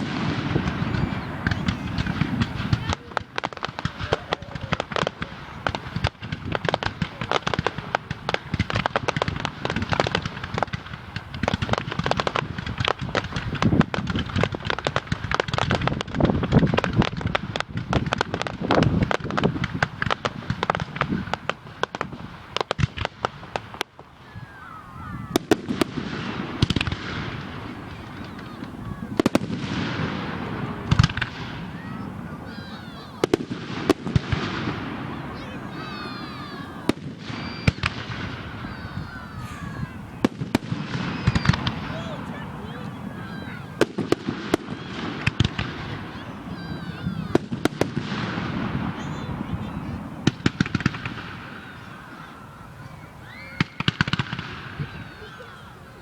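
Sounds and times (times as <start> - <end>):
fireworks crackling and banging: 0.0 - 56.0
fireworks falling whistles: 0.0 - 56.0.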